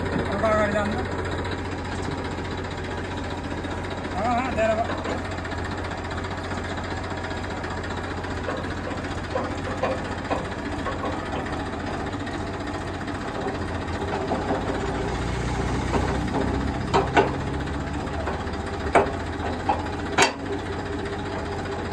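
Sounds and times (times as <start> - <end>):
tractor diesel engine idling: 0.0 - 21.9.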